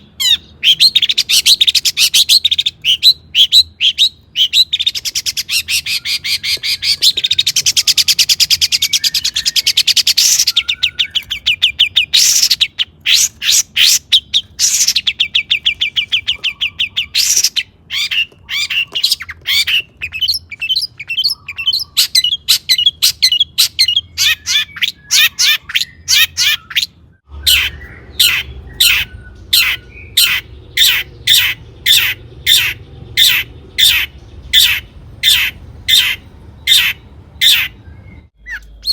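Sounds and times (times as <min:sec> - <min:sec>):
bird sharp repeated notes: 0:00.0 - 0:38.9
bird singing trills: 0:00.0 - 0:38.9.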